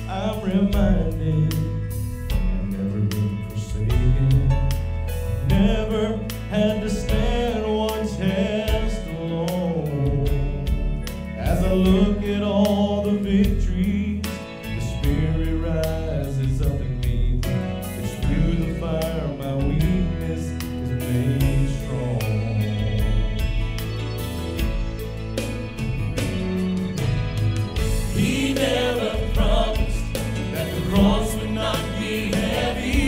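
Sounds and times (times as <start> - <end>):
man singing gospel song: 0.0 - 23.7, 27.8 - 33.0
instrumental backing track: 0.0 - 33.0.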